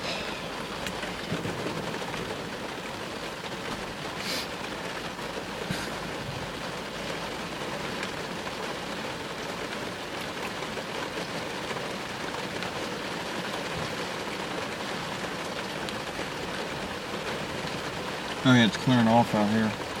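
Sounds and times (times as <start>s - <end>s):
rain falling on a car: 0.0s - 20.0s.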